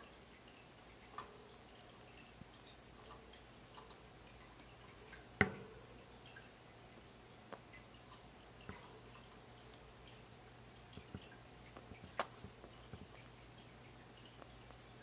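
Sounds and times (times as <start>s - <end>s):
rat clicking and tapping: 0.0s - 15.0s.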